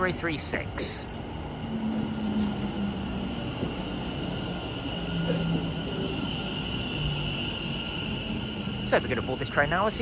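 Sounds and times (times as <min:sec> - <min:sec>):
train humming and whining: 0:00.0 - 0:10.0.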